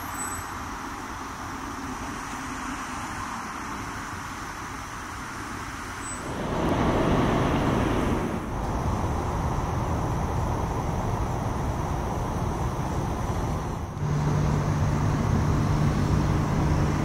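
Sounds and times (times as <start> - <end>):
low engine hum: 0.0 - 17.0
road traffic noise: 0.0 - 17.0.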